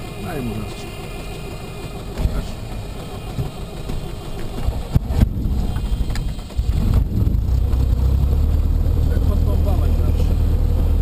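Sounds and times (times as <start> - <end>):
airplane engine running: 0.0 - 11.0
starter cranking engine: 0.0 - 11.0.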